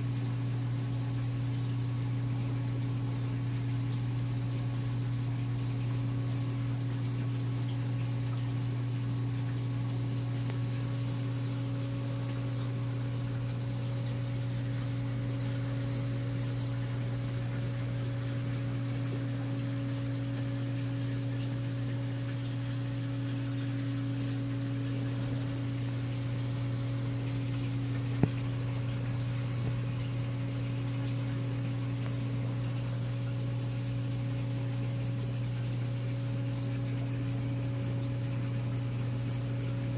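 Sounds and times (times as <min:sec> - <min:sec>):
aquarium pumps humming: 0:00.0 - 0:39.9
water running: 0:00.8 - 0:39.9.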